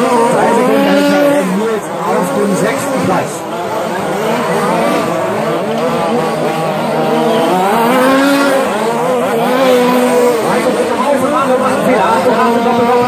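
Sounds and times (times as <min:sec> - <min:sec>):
rc truck motors racing: 0:00.0 - 0:13.0.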